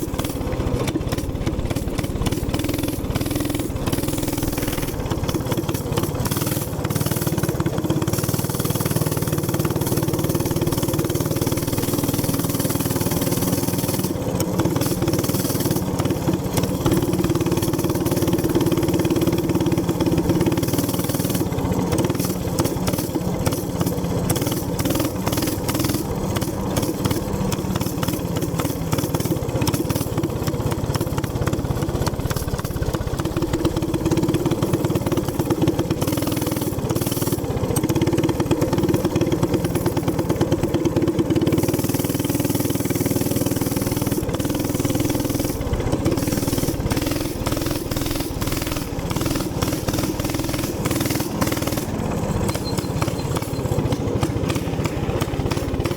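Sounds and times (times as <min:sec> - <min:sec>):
minibike engine running: 0:00.0 - 0:55.9.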